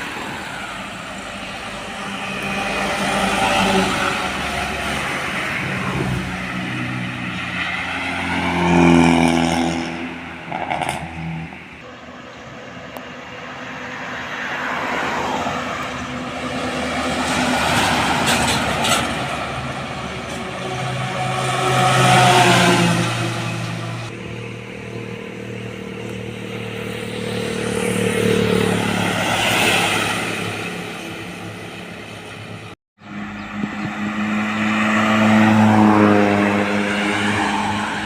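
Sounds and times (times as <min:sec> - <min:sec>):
tyre and road noise: 0:00.0 - 0:38.0
vehicle engine hum: 0:00.0 - 0:38.0.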